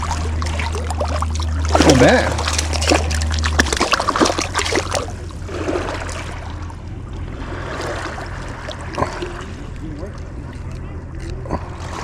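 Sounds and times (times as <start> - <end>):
sharp splashes and clicks: 0.0 - 12.0
water splashing at shoreline: 0.0 - 12.0.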